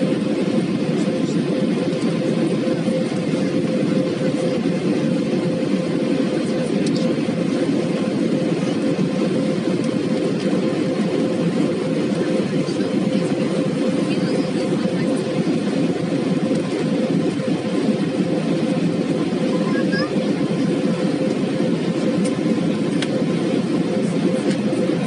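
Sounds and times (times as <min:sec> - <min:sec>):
constant hum tone: 0:00.0 - 0:25.0
jet engine drone in cabin: 0:00.0 - 0:25.0.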